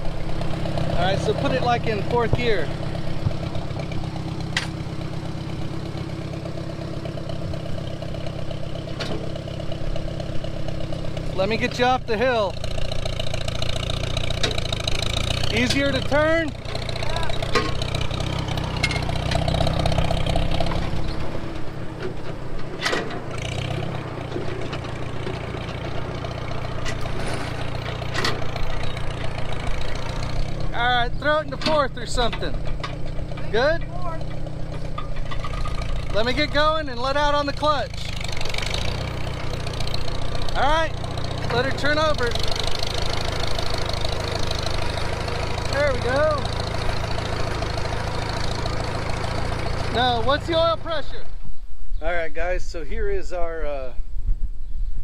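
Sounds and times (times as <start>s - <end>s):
engine idling: 0.0s - 51.6s.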